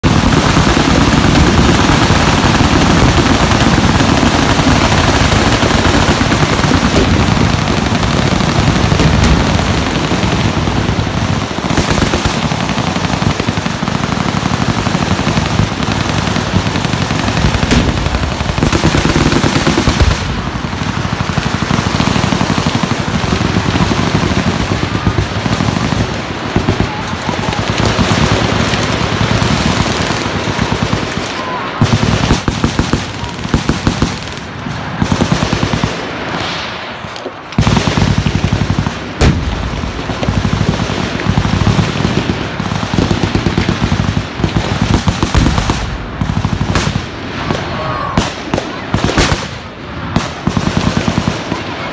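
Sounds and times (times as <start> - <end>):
machine guns firing: 0.0 - 36.5, 37.2 - 51.9.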